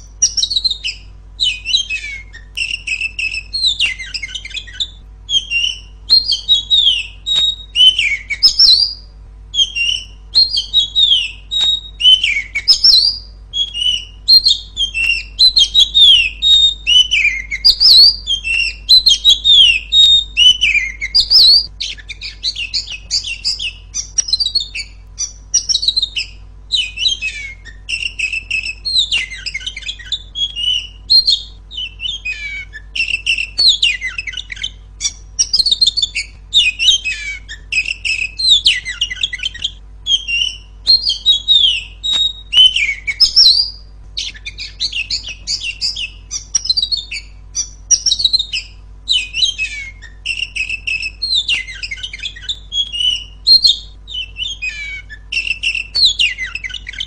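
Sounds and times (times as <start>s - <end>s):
bird singing chirps and whistles: 0.0s - 57.0s.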